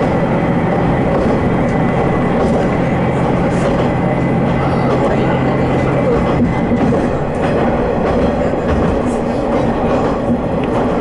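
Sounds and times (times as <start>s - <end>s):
railcar engine drone: 0.0s - 11.0s
wheels on rails: 0.0s - 11.0s.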